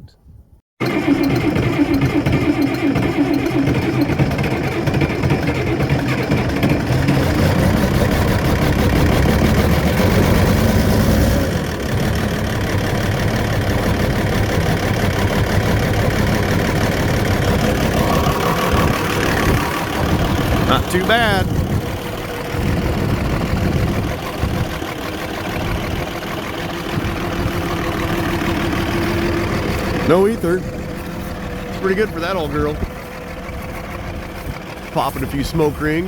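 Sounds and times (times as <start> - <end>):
diesel tractor engine starting: 0.8 - 36.0.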